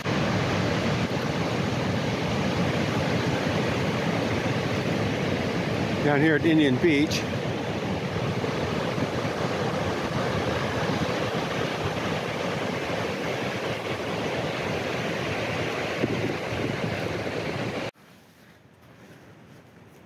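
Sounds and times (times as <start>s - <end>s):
surf waves rushing: 0.0s - 18.0s.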